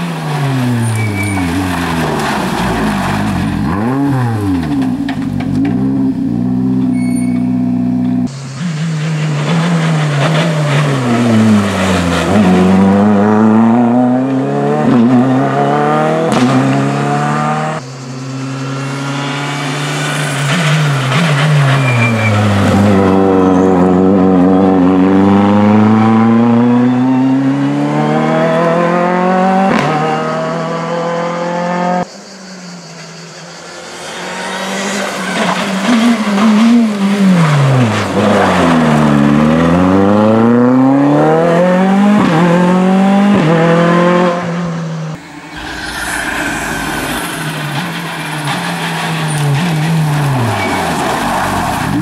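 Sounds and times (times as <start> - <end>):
rally car engine revving: 0.0 - 32.1, 33.8 - 52.0.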